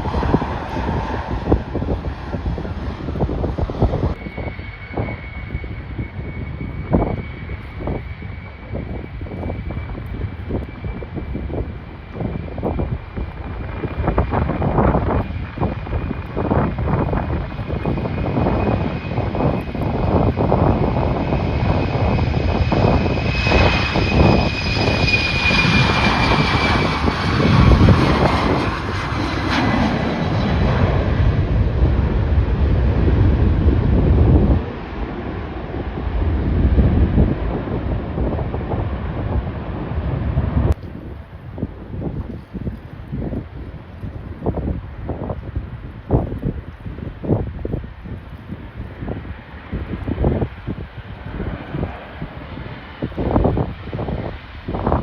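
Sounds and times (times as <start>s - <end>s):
airliner engines rumble and whine: 0.0s - 55.0s
wind buffeting microphone: 0.0s - 55.0s.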